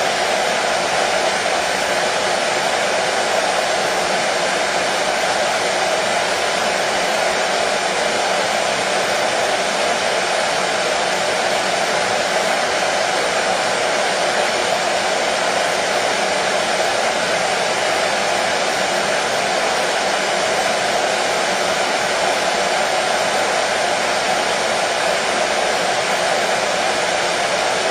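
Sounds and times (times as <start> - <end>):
hair dryer running: 0.0 - 27.9.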